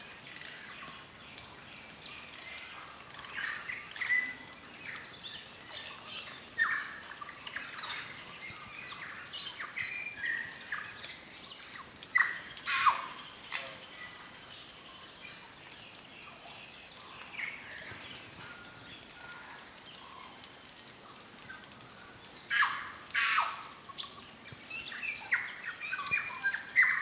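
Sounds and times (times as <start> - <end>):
forest birds calling: 0.0 - 27.0.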